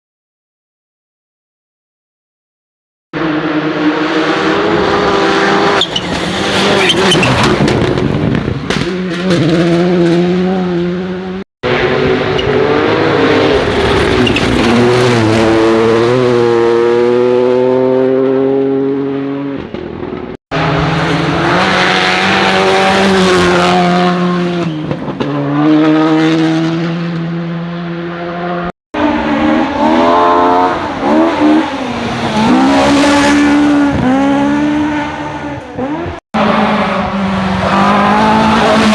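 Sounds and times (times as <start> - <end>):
rally car engines revving hard: 3.2 - 38.9.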